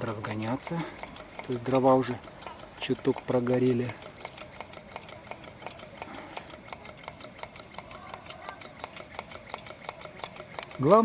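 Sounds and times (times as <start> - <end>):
small engine ticking clatter: 0.0 - 11.0.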